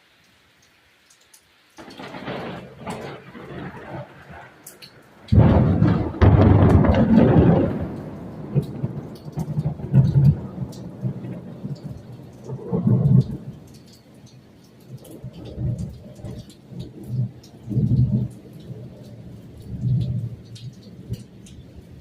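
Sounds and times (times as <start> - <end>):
rain pattering: 0.0 - 22.0
thunder rumbling: 1.8 - 13.8, 15.2 - 22.0.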